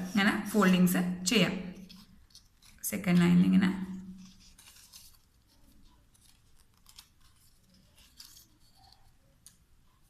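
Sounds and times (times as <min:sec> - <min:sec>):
paper rustling and crinkling: 0:01.8 - 0:10.0.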